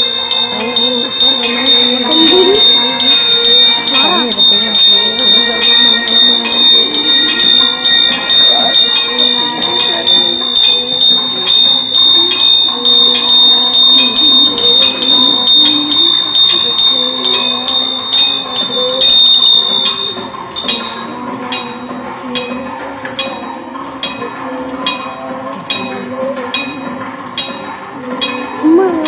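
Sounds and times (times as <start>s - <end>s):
temple bell rung rapidly: 0.0s - 29.0s.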